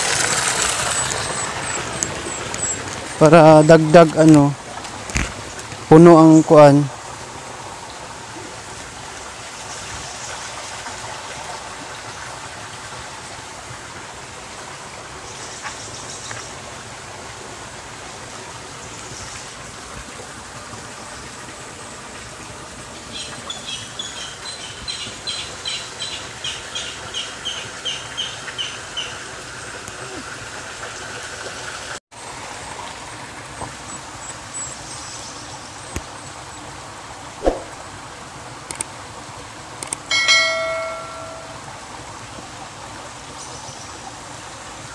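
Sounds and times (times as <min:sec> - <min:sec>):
stream flowing over stones: 0:00.0 - 0:44.9.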